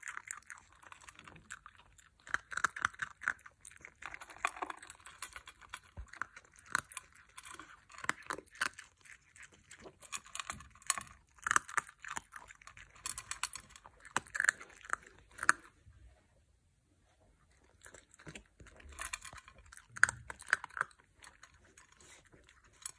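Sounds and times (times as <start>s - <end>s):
dog crunching dry kibble: 0.0s - 15.8s, 17.5s - 22.9s.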